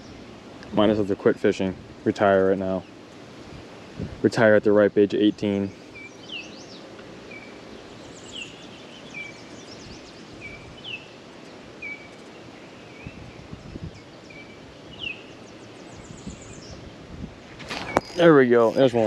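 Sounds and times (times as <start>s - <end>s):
small birds chirping: 0.0s - 17.1s, 17.7s - 19.0s
outdoor background hiss: 0.0s - 19.0s.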